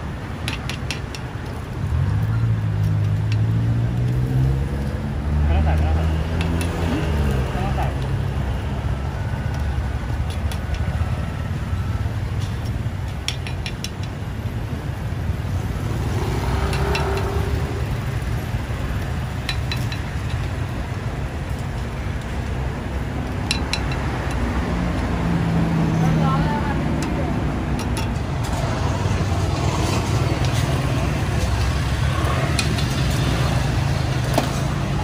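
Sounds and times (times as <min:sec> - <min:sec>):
low street rumble: 0:00.0 - 0:35.0.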